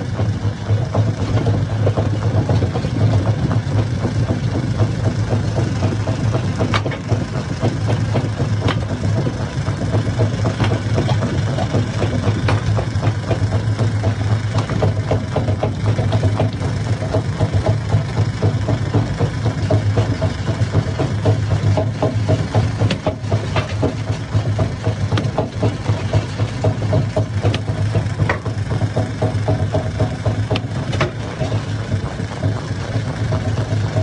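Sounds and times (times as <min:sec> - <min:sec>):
stone crusher humming: 0:00.0 - 0:34.0.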